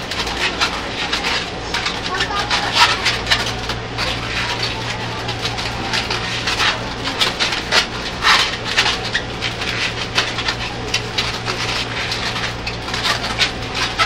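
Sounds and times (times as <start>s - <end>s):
balloons squeaking and rubbing: 0.0s - 14.0s
low hum of a train car: 0.0s - 14.0s.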